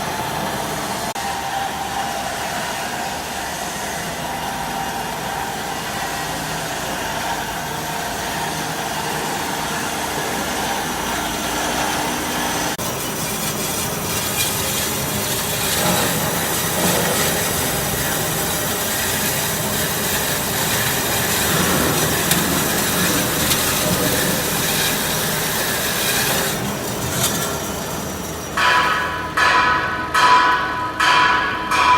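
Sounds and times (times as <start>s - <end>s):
band saw cutting metal: 0.0s - 30.3s.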